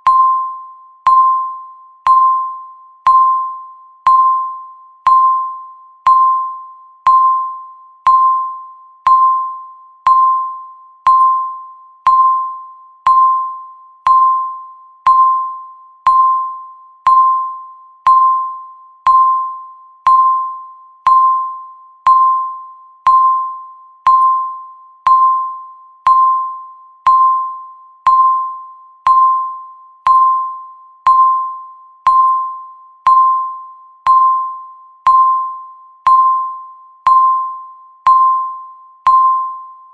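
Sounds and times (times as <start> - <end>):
timer electronic ping: 0.0 - 39.9.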